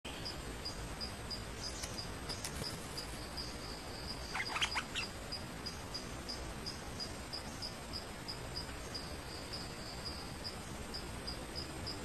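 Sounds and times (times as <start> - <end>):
bird calls: 0.1 - 12.0
insect chirping: 0.1 - 12.0.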